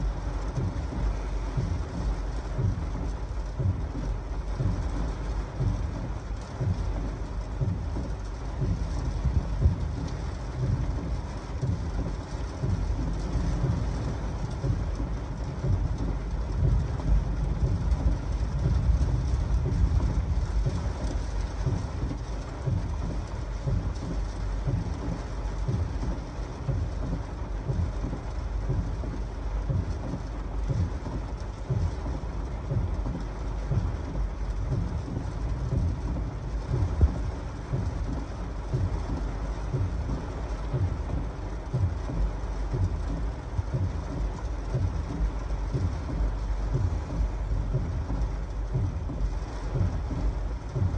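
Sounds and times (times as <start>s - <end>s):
heavy rain beating on a vehicle: 0.0s - 50.9s.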